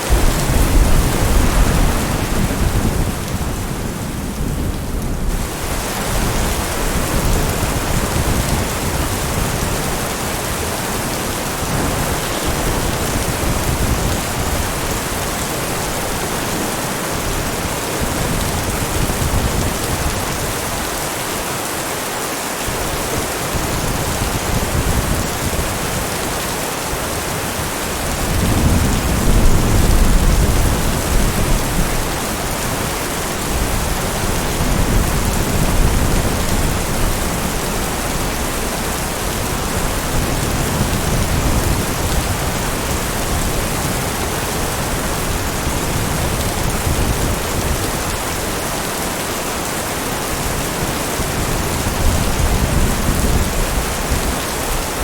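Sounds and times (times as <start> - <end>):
thunder rumbling: 0.0 - 21.0, 22.7 - 49.0
heavy rain falling: 0.0 - 55.0.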